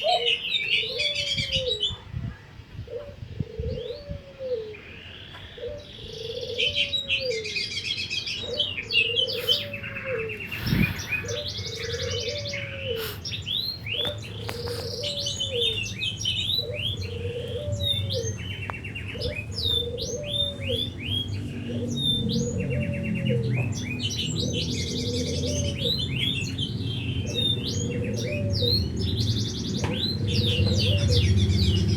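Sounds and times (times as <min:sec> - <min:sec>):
dove cooing: 0:00.0 - 0:31.9
small birds chirping: 0:00.0 - 0:31.9.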